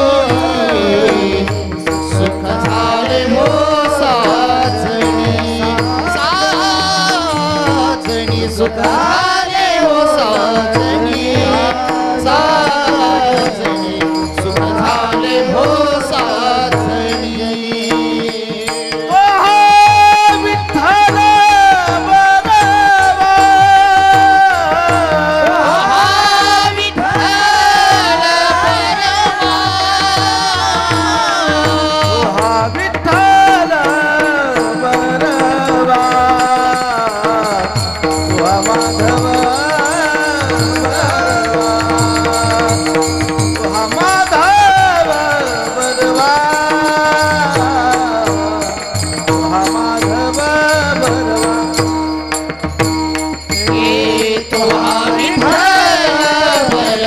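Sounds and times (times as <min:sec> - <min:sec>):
drum beating: 0:00.0 - 0:57.0
small percussion: 0:00.0 - 0:57.0.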